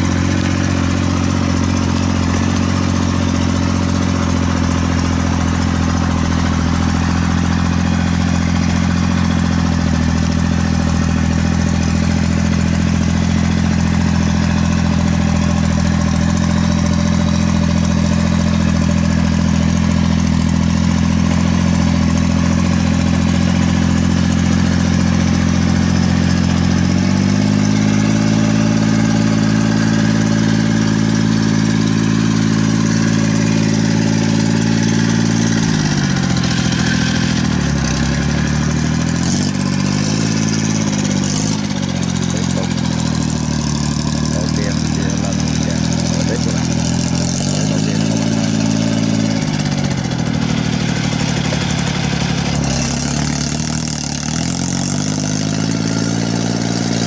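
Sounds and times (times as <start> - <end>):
small tracked carrier engine running: 0.0 - 57.0.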